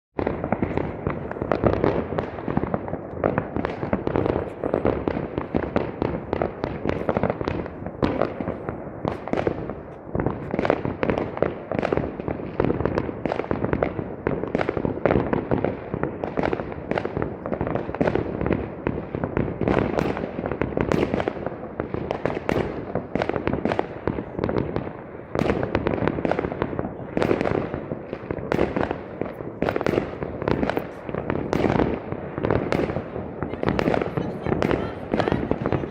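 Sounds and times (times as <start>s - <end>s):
fireworks bursts and crackling bangs: 0.2s - 35.9s.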